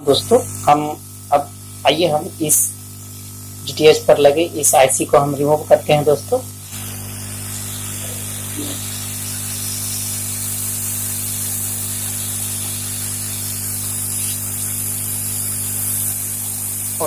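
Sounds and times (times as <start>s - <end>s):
electrical hum: 0.0s - 17.0s
hot-air blower hissing: 0.0s - 17.0s.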